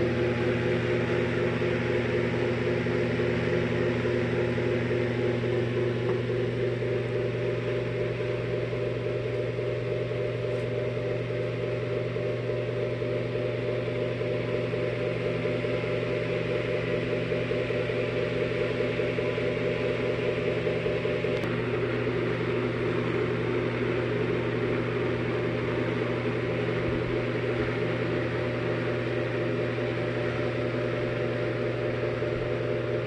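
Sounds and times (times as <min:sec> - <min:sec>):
electric fan humming and whirring: 0:00.0 - 0:33.0.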